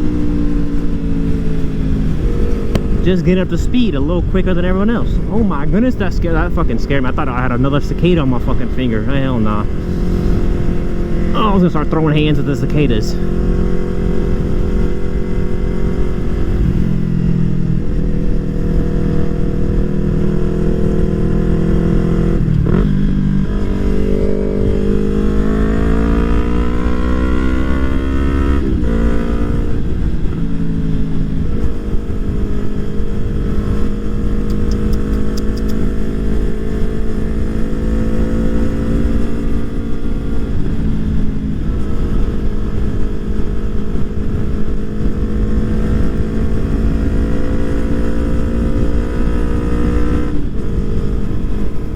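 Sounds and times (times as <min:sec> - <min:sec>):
motorcycle engine revving: 0:00.0 - 0:51.9
wind rumble on microphone: 0:00.0 - 0:51.9.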